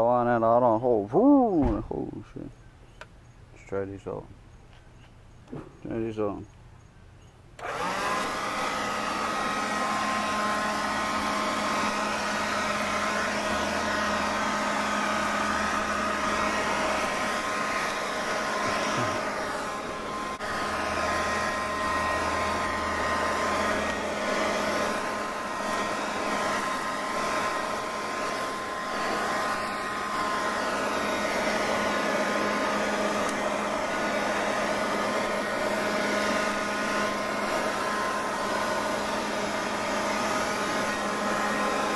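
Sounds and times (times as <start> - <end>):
leaf blower running: 7.6 - 41.9.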